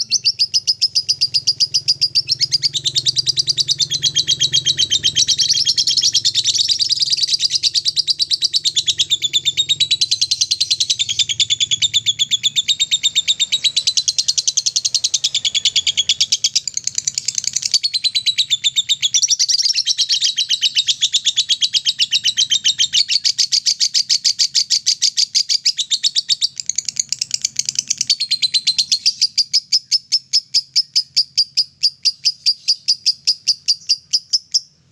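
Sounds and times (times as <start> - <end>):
lovebird chattering song: 0.0 - 34.8.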